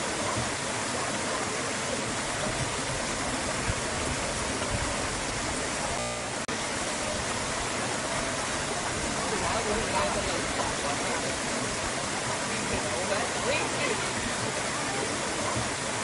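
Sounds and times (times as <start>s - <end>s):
water rushing over boulders: 0.0s - 16.0s.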